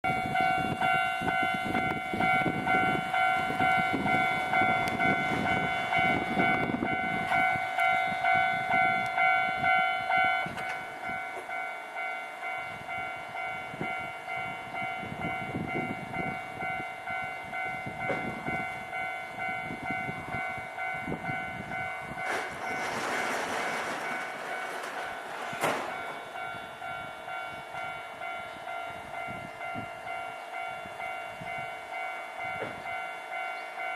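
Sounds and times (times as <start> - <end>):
level crossing warning bell: 0.0 - 33.9
train wheels passing: 0.1 - 33.9.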